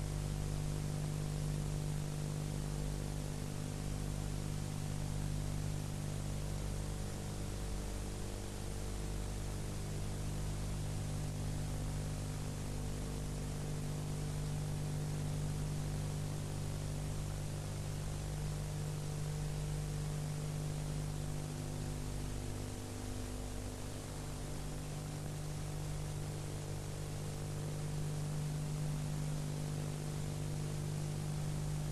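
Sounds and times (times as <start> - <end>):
low electrical hum: 0.0 - 31.9.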